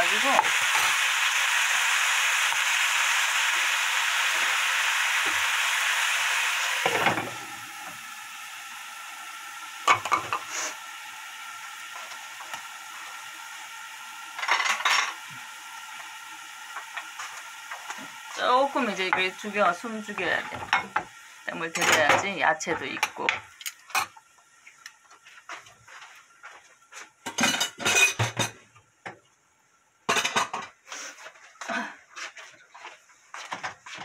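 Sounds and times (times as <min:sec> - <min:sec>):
food sizzling in frying pan: 0:00.0 - 0:28.6.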